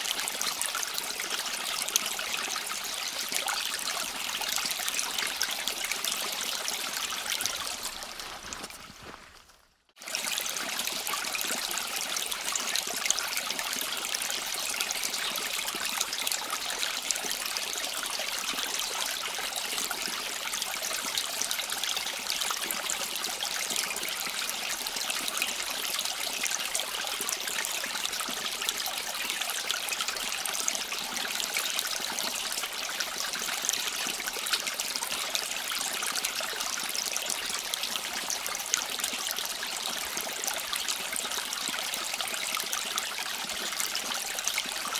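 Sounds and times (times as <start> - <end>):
stream flowing and trickling: 0.0 - 44.9.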